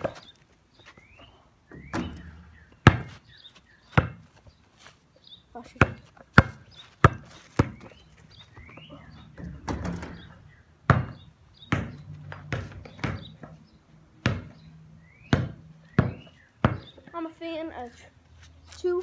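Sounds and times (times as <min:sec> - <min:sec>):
basketball bouncing on hard ground: 0:00.0 - 0:01.1, 0:01.7 - 0:04.5, 0:05.6 - 0:17.2
birds chirping: 0:00.0 - 0:19.0.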